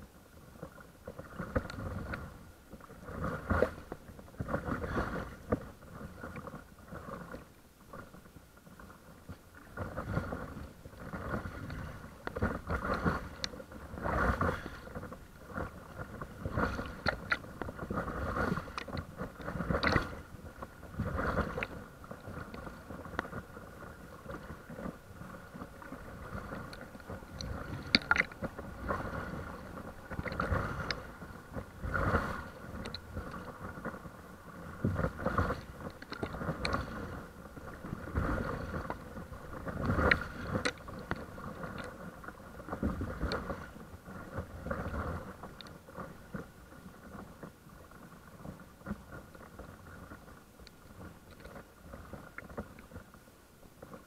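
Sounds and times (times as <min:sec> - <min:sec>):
water splashing against paddleboard: 0:00.6 - 0:53.2.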